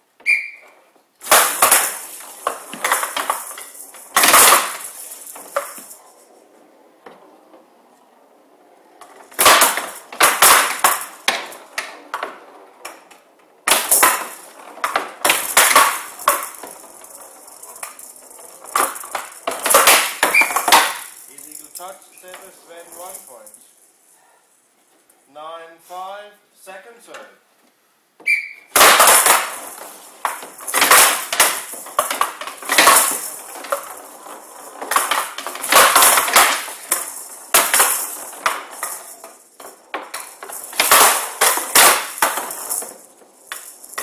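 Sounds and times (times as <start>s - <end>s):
ball rattling across table: 1.2s - 24.2s, 28.3s - 44.0s.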